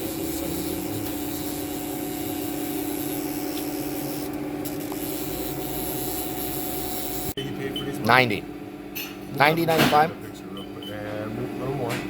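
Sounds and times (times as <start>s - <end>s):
mill humming: 0.0s - 12.0s.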